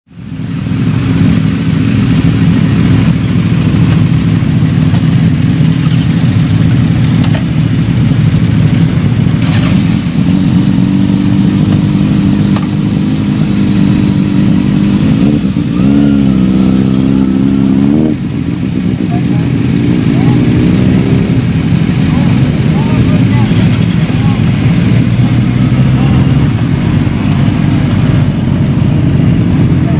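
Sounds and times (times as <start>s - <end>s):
motorcycle engines idling: 0.1s - 29.9s.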